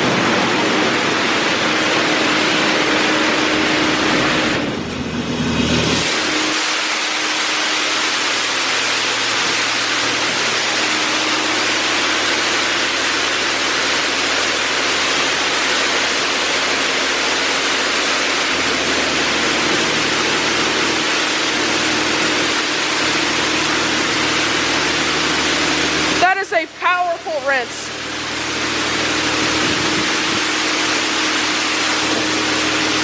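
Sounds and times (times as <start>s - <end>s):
car wash water jets hissing: 0.0s - 33.0s.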